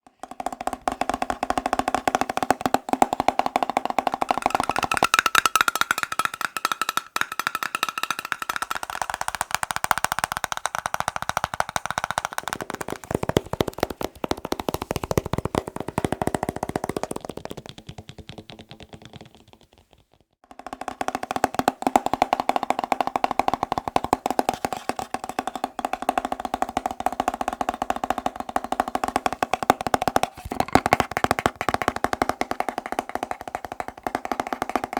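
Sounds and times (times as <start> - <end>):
fast tapping on ringing objects: 0.2 - 19.1, 20.5 - 34.9.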